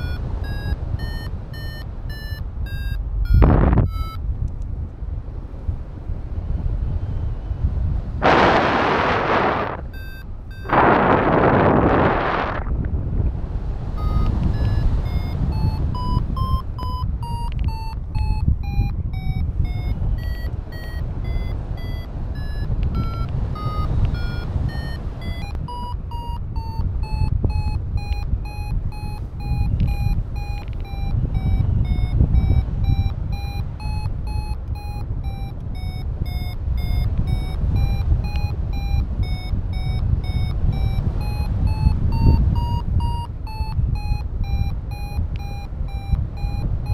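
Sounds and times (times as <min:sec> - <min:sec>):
variometer short beeps: 0:00.0 - 0:04.4, 0:08.2 - 0:12.5, 0:13.9 - 0:46.9
wind rumble on microphone: 0:00.0 - 0:46.9.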